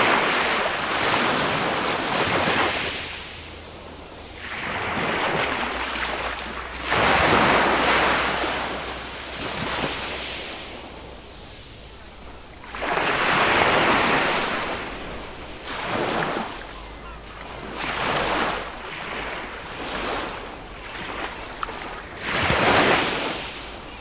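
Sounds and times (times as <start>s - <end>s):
small waves breaking on shore: 0.0s - 24.0s.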